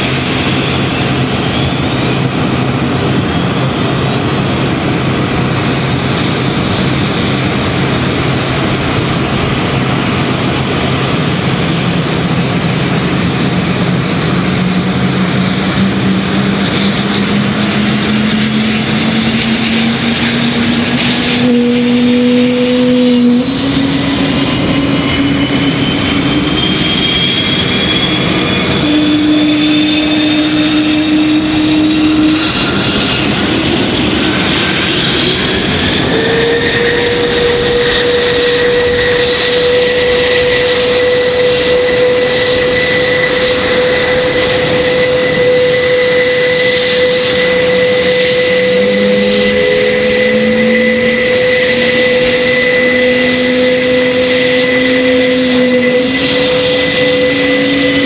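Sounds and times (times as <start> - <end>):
turboprop engines whining: 0.0 - 58.0.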